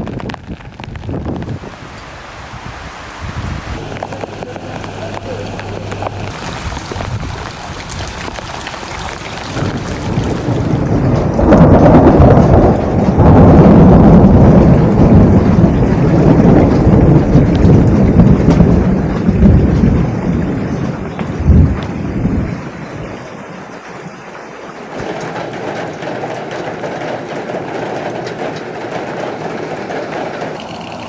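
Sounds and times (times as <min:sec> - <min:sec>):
low thunder rumble: 0:00.0 - 0:23.2, 0:24.8 - 0:31.0
rain falling: 0:00.0 - 0:31.0.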